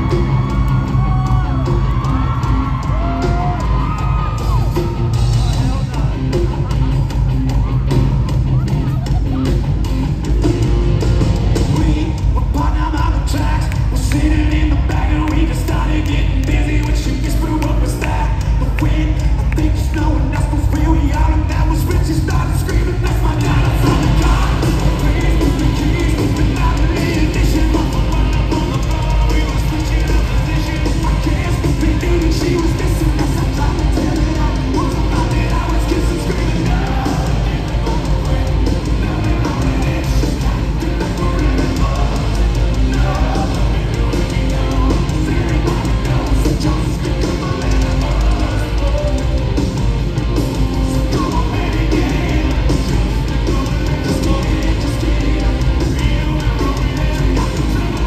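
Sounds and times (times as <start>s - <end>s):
live hard rock band: 0.0s - 58.0s
person singing: 11.5s - 58.0s.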